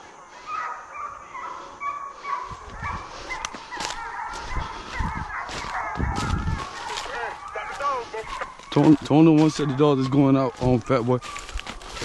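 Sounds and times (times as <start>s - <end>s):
hounds baying and yelping: 0.0s - 12.0s.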